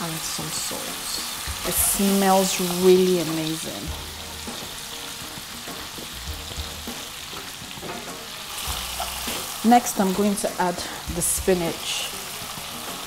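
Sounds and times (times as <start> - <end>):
food sizzling in wok: 0.0 - 13.0.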